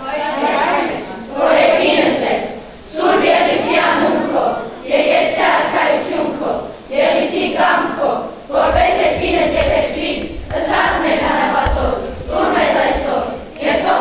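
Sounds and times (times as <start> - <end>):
children speaking in unison: 0.0 - 14.0.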